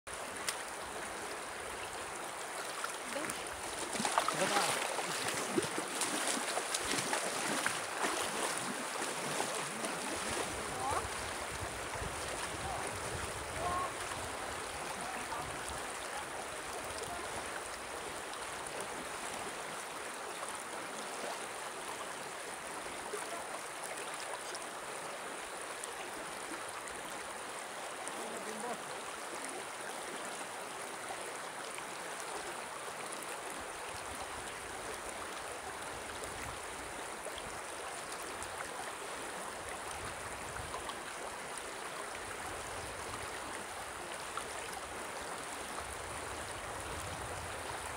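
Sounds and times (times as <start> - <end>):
river rushing over stones: 0.1 - 47.9.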